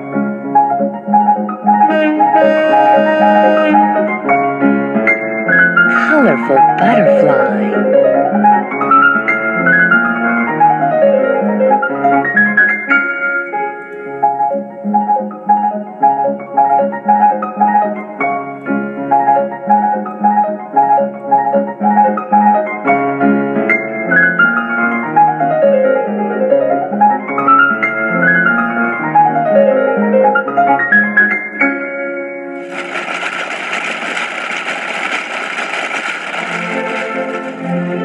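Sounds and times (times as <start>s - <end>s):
classical piano music: 0.0s - 38.0s.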